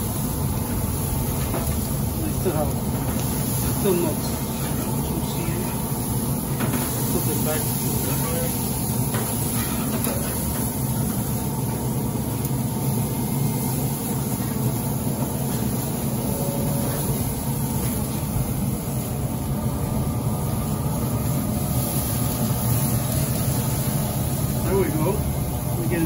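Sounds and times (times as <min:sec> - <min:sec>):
flames flaring: 0:00.0 - 0:26.0
grill fire humming and rushing: 0:00.0 - 0:26.0.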